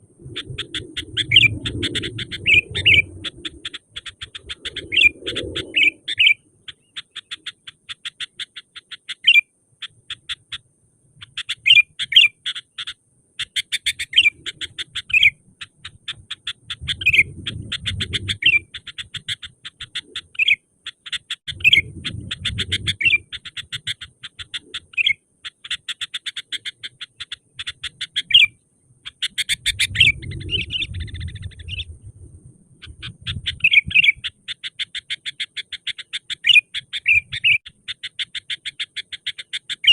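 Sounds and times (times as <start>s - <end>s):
bird chattering calls: 0.2s - 32.0s, 32.8s - 39.9s.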